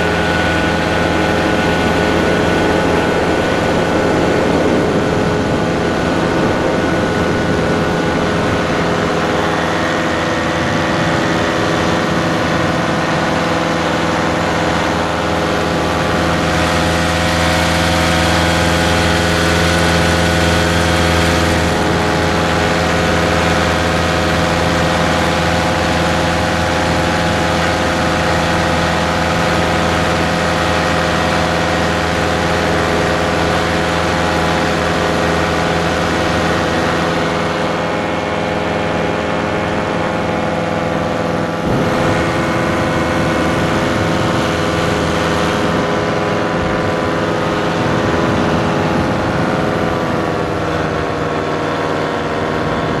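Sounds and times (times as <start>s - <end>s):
paramotor engine running: 0.0s - 53.0s.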